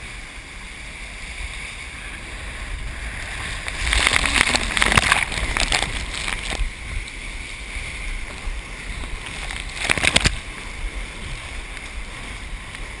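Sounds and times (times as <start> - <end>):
rushing ocean surf: 0.0 - 13.0
water sloshing around kayak: 1.7 - 13.0.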